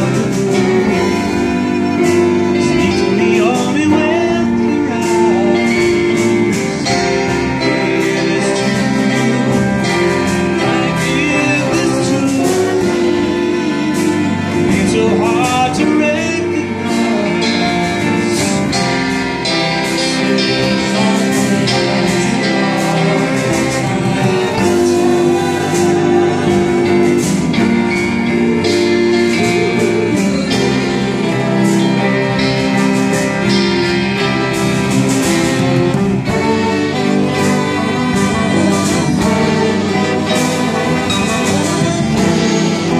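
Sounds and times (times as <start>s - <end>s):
drum kit beat: 0.0s - 42.9s
lead vocal singing: 0.0s - 42.9s
live band playing: 0.0s - 42.9s.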